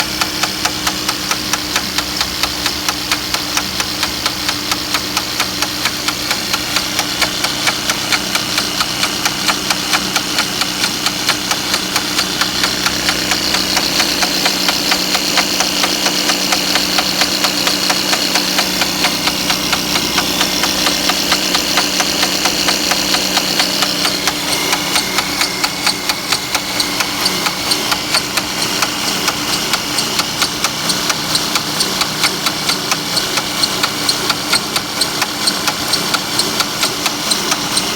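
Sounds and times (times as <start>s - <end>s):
car engine idling: 0.0s - 37.9s
rapid even engine knocking: 0.0s - 37.9s.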